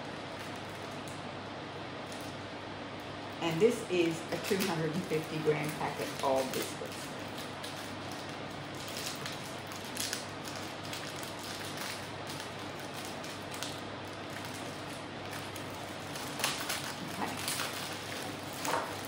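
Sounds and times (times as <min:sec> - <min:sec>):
biscuit packet crinkling: 0:00.0 - 0:01.2, 0:03.0 - 0:19.0.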